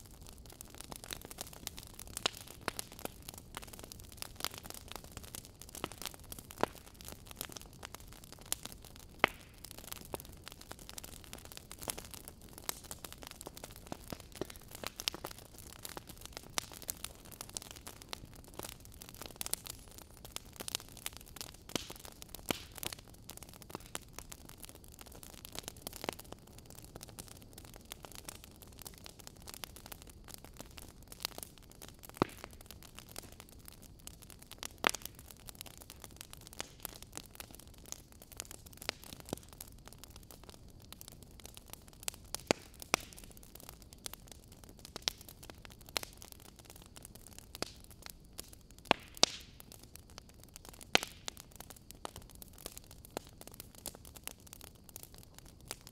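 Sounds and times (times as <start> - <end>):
faint steady hiss: 0.0 - 55.9
sharp crackles and clicks: 0.0 - 55.9.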